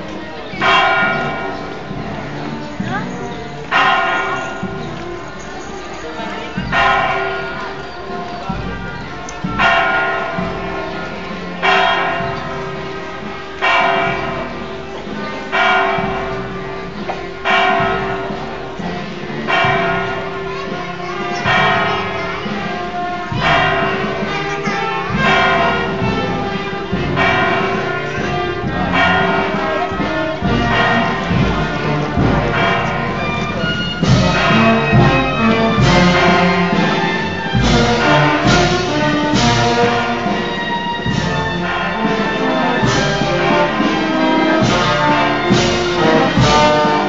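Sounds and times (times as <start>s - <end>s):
church bell tolling: 0.0s - 47.0s.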